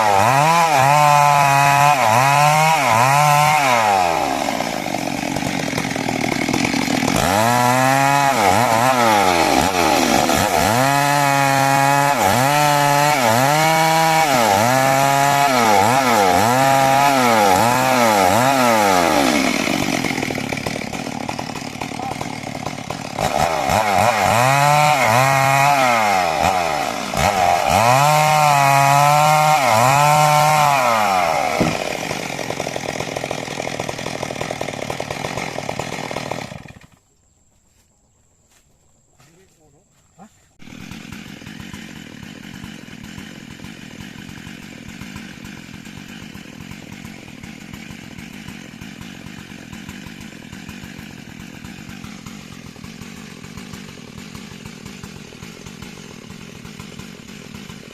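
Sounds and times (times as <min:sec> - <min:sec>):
chainsaw cutting timber: 0:00.0 - 0:37.1, 0:40.6 - 0:57.9.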